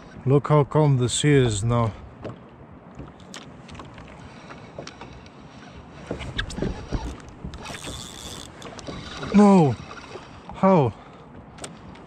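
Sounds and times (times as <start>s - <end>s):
water lapping against kayak hull: 1.1s - 12.0s.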